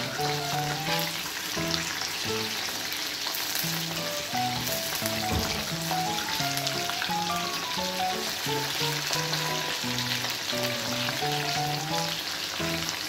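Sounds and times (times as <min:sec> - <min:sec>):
background music: 0:00.0 - 0:02.5, 0:03.8 - 0:13.0
chicken deep-frying in oil: 0:00.0 - 0:13.0.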